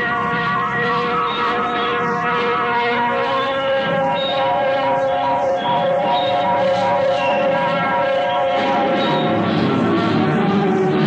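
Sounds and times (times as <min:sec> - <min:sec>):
live rock music: 0:00.0 - 0:11.0.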